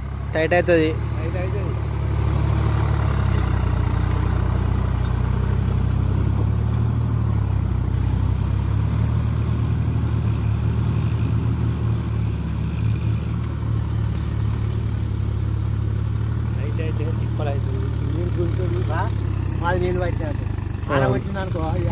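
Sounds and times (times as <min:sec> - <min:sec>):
tractor engine running under load: 0:00.0 - 0:21.9.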